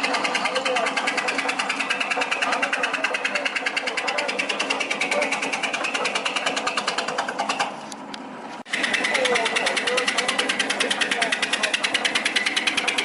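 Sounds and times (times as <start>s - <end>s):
blade chopping clatter: 0.0s - 13.0s.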